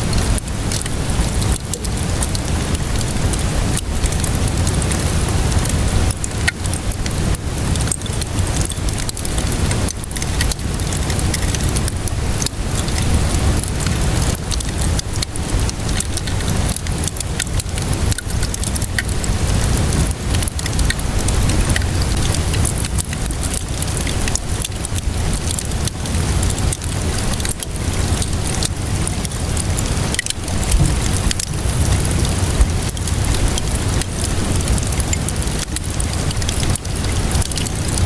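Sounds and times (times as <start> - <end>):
steady rainfall: 0.0 - 38.0
wood fire crackling: 0.0 - 38.0.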